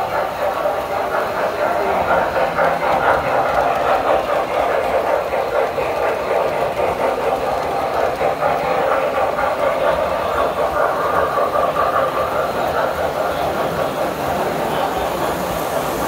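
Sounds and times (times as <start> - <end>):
toy trains clattering on metal track: 0.0 - 16.0.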